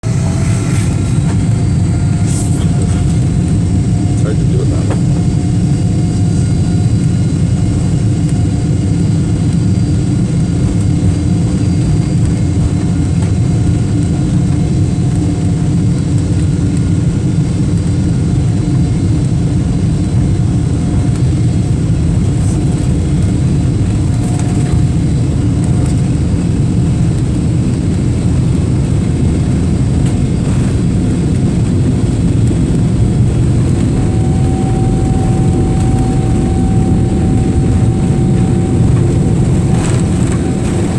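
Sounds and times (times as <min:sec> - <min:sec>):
high engine whine: 0:00.0 - 0:40.9
jet engines low rumble: 0:00.0 - 0:40.9.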